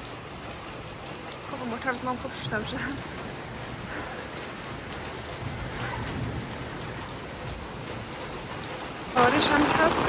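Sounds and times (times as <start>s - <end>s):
rain falling on tiles and a car: 0.0s - 10.0s.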